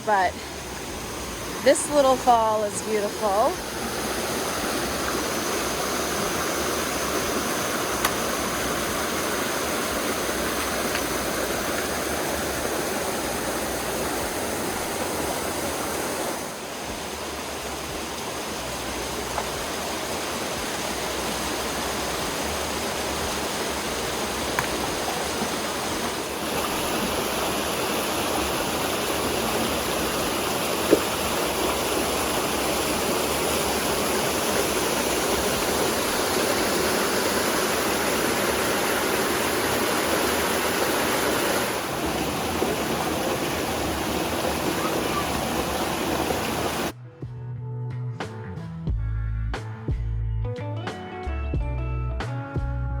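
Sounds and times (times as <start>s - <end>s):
brook rushing over waterfall: 0.0s - 47.0s.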